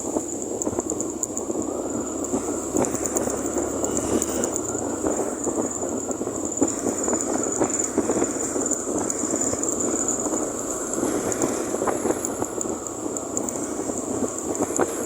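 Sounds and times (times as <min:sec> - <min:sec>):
thin high whine: 0:00.0 - 0:15.0
wind and road rumble: 0:00.0 - 0:15.0.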